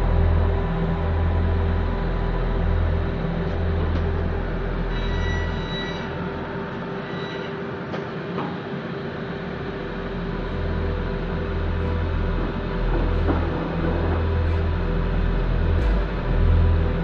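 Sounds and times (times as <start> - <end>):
factory machinery hum: 0.0 - 17.0
high machine whine: 0.0 - 17.0.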